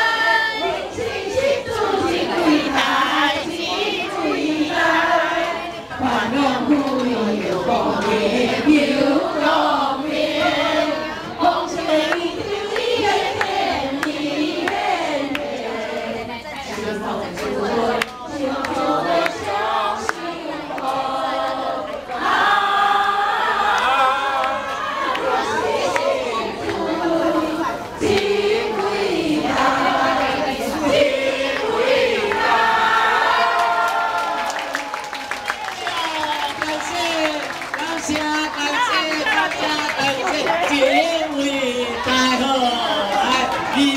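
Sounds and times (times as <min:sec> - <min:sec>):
group singing: 0:00.0 - 0:35.0, 0:37.8 - 0:43.9.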